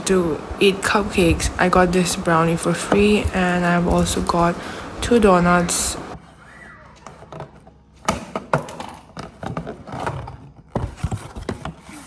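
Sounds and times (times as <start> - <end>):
food packaging rustling: 0.0 - 12.0.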